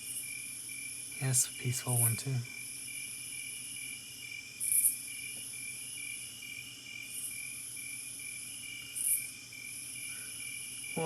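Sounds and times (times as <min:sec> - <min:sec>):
recorded crickets chirping: 0:00.0 - 0:11.0.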